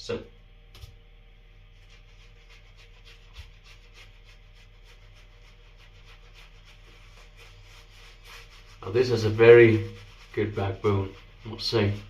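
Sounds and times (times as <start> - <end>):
shaving brush strokes on face: 1.6 - 12.0.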